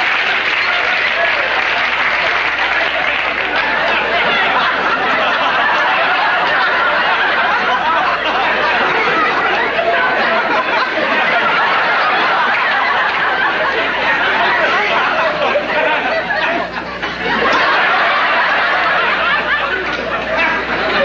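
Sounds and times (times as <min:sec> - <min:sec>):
audience laughing loudly: 0:00.0 - 0:21.0
cast laughing: 0:00.0 - 0:21.0.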